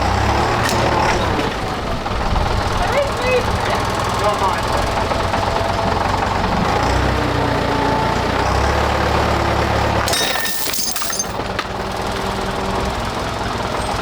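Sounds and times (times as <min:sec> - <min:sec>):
tractor engine under load: 0:00.0 - 0:14.0.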